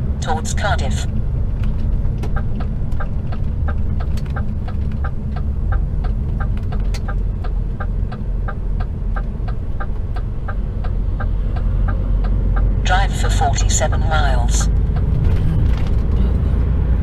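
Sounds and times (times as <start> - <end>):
diesel engine drone: 0.0 - 17.0
turn signal ticking: 1.1 - 16.5.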